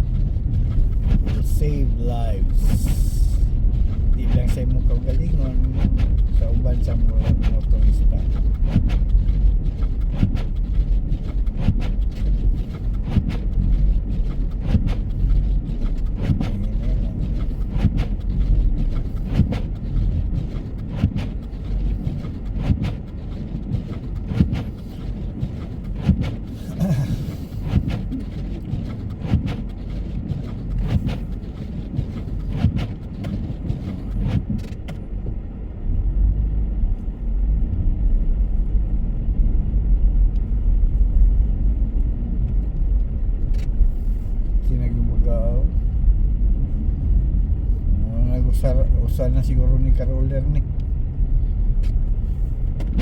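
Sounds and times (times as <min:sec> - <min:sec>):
car road rumble inside cabin: 0:00.0 - 0:53.0.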